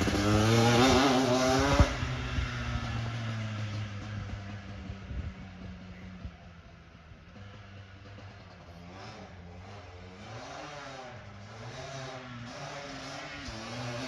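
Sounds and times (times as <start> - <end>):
quad bike engine revving: 0.0 - 14.0.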